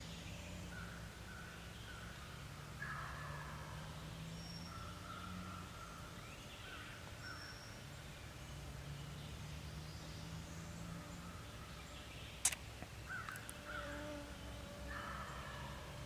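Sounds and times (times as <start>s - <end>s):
wild birds calling: 0.0s - 16.0s.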